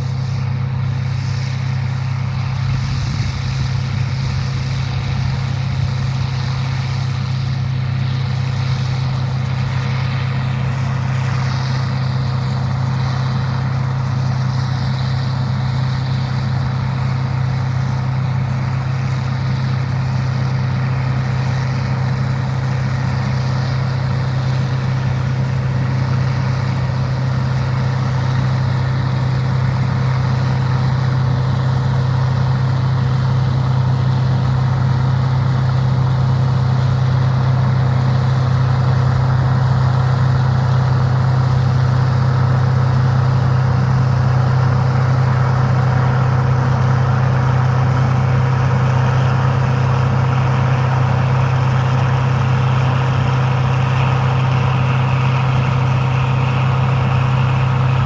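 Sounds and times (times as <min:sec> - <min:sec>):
machine engine droning: 0:00.0 - 0:58.0.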